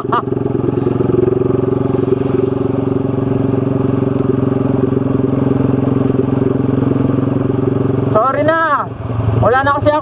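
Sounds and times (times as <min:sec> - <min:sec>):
motorcycle exhaust note: 0:00.0 - 0:10.0.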